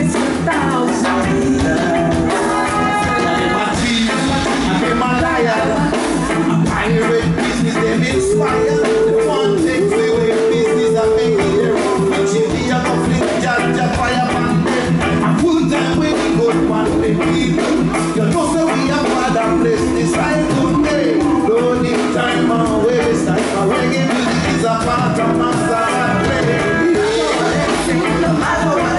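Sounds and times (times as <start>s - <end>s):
group singing: 0.0s - 28.9s
reggae band playing: 0.0s - 28.9s.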